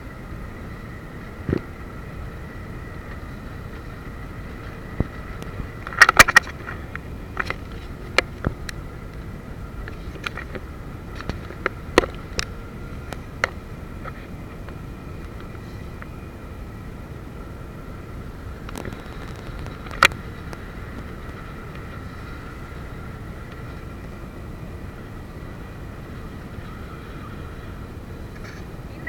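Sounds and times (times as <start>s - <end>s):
faint whine: 0.0s - 29.0s
motorboat engine: 0.0s - 29.0s
wind: 0.0s - 29.0s.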